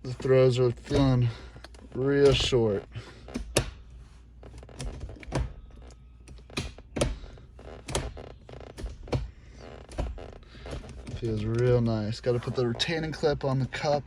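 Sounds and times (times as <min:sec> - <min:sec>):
gear shift lever clicking and clunking: 0:00.1 - 0:03.8, 0:04.5 - 0:13.1.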